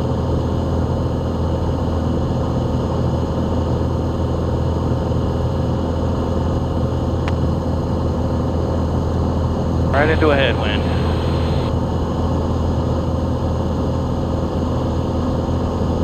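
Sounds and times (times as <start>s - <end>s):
airplane engine and propeller drone: 0.0s - 16.0s.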